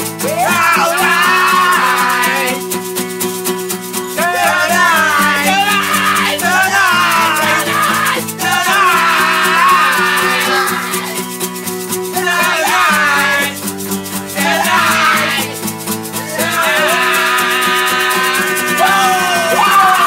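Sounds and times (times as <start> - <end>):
person singing: 0.0 - 3.0, 4.1 - 20.0
held chords: 0.0 - 20.0
shaker beat: 0.0 - 20.0.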